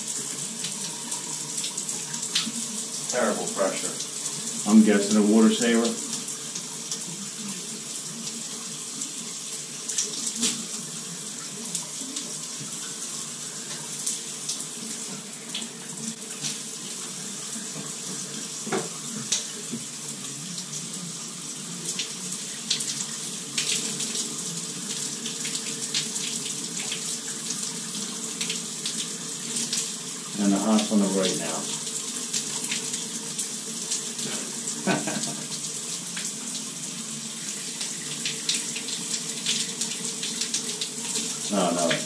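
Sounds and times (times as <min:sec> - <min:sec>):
shower water spraying: 0:00.0 - 0:42.0.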